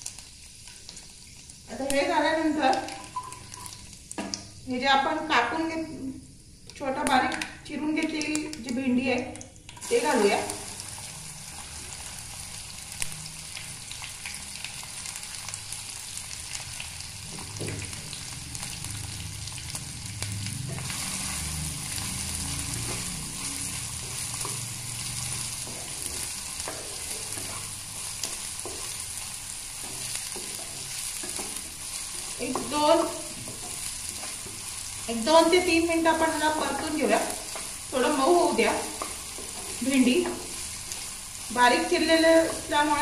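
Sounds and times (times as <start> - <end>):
vegetables sizzling in hot oil: 0.0 - 43.0.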